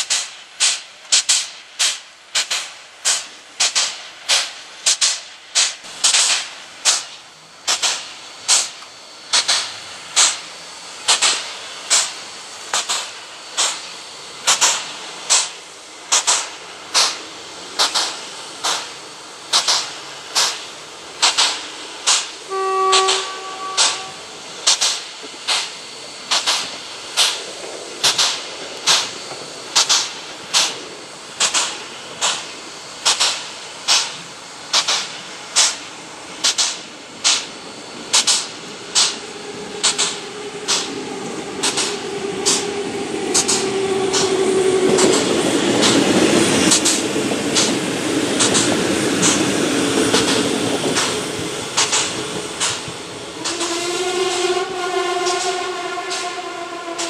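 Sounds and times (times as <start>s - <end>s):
steam air pump hissing puffs: 0.0s - 57.0s.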